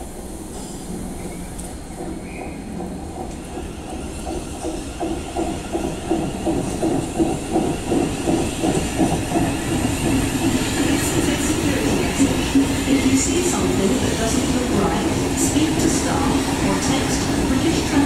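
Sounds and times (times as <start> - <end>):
train wheels clattering over track: 0.5 - 18.0.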